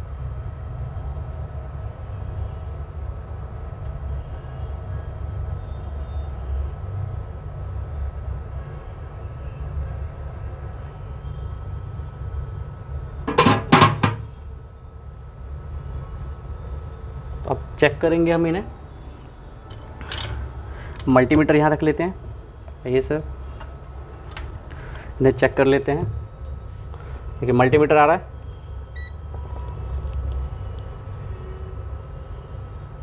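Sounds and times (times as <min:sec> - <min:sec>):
faint high whine: 0:00.8 - 0:33.0.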